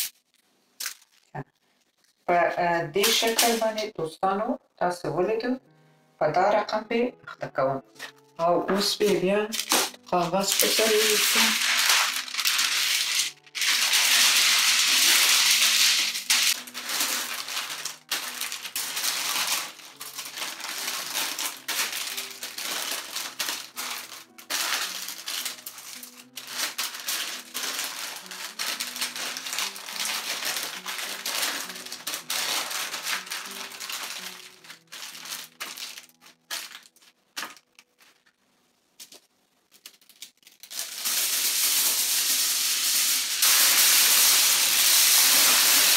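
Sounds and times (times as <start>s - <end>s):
baking paper rustling and crinkling: 0.0s - 3.8s, 7.9s - 38.4s, 39.0s - 45.9s
foil roll crackling: 0.0s - 3.8s, 8.8s - 38.4s, 39.0s - 45.9s
soft background music: 1.3s - 45.9s.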